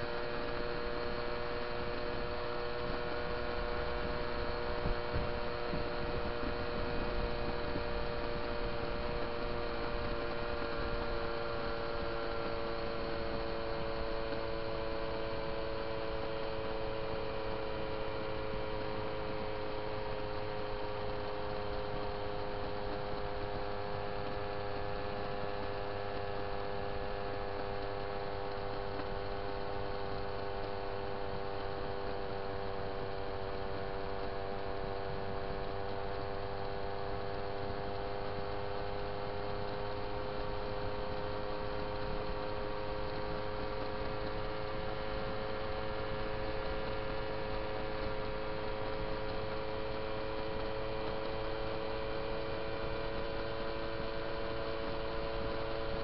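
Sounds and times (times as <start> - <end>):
moped engine droning: 0.0 - 56.0
road and wind rumble: 0.0 - 56.0.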